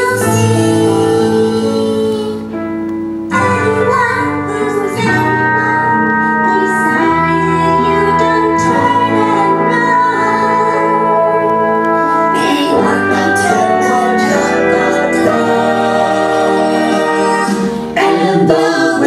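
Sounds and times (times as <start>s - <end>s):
song with sung melody: 0.0s - 19.0s.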